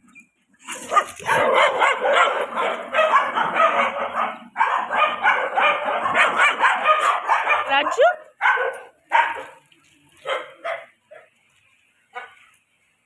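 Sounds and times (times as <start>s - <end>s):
dogs barking: 0.7s - 9.6s, 10.2s - 11.4s, 12.1s - 12.5s.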